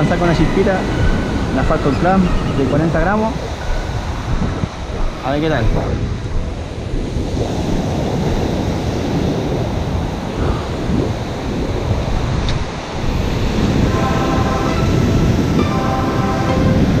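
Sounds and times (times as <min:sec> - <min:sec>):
ocean surf breaking on beach: 0:00.0 - 0:17.0
wind buffeting microphone: 0:00.0 - 0:17.0.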